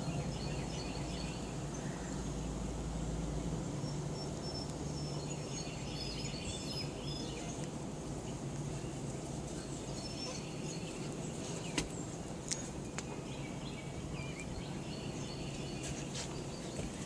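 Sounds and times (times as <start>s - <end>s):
distant bird chirps: 0.0s - 17.0s
steady low hum: 0.0s - 17.0s.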